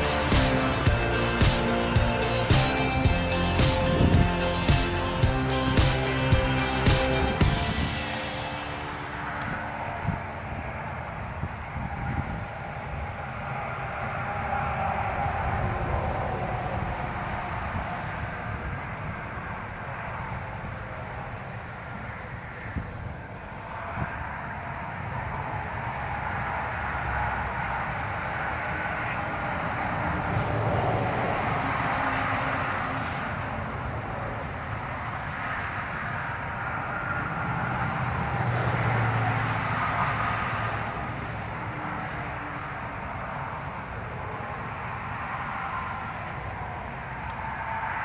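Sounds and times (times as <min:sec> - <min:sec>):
road traffic rumble: 0:00.0 - 0:48.0.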